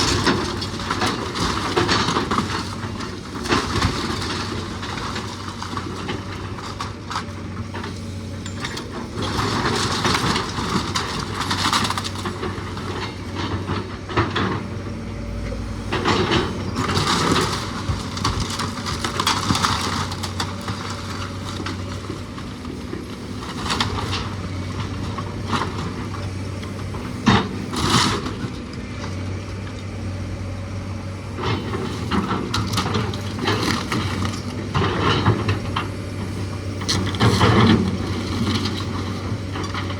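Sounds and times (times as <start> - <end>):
engine running: 0.0 - 39.9
wood and debris crunching: 0.0 - 39.9.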